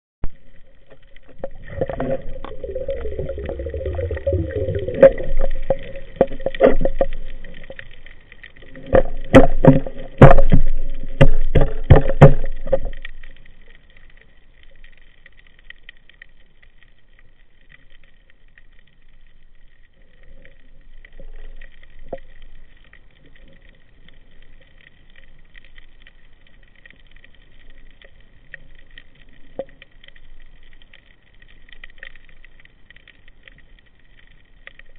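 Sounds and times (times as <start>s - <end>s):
faint steady hiss: 0.2s - 34.9s
low underwater rumble: 0.2s - 34.9s.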